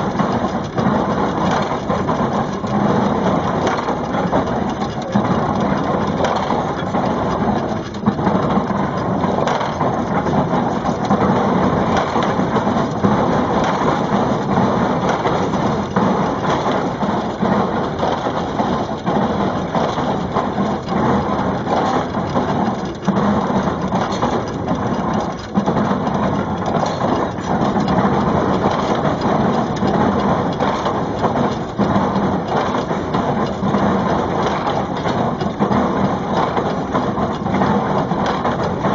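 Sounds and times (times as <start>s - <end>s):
baler clattering and crushing: 0.0s - 38.9s.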